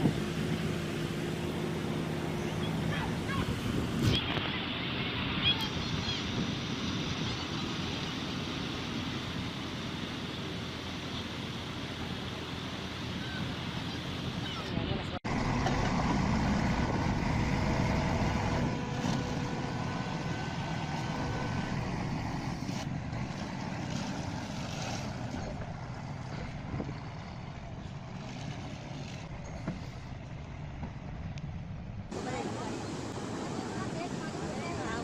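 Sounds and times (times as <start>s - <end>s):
heavy truck engine running: 0.0s - 35.0s.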